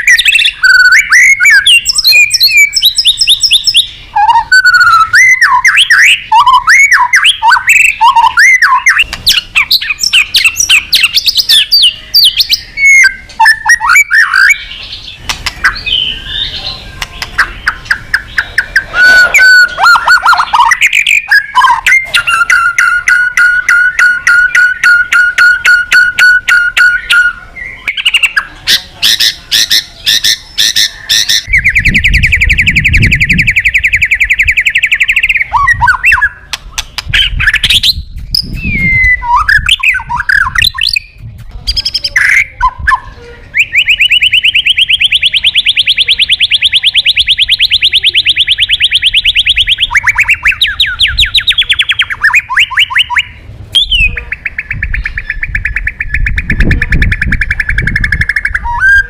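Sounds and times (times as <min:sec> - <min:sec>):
bird trilling: 0:00.0 - 0:59.0
bird whistling: 0:00.0 - 0:59.0.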